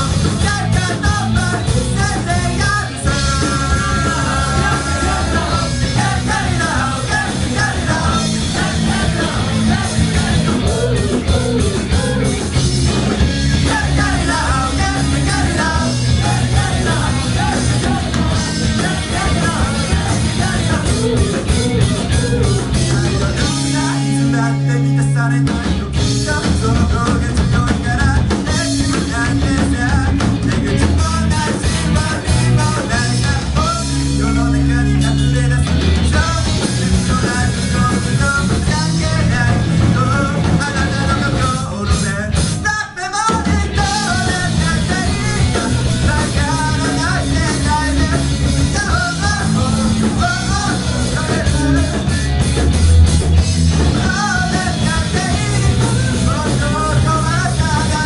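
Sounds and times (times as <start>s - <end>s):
person singing: 0.0s - 12.8s, 13.5s - 52.4s, 53.8s - 58.0s
rock band playing: 0.0s - 58.0s.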